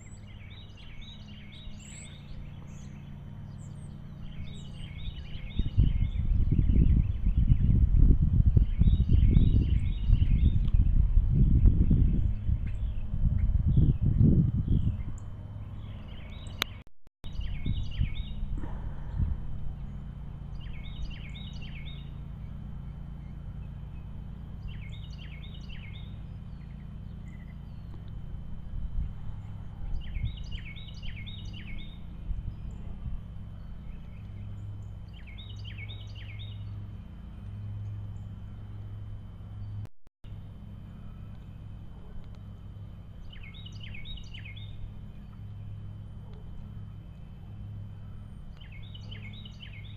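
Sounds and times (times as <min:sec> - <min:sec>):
songbird singing: 0:00.0 - 0:49.9
steady low hum: 0:00.0 - 0:49.9.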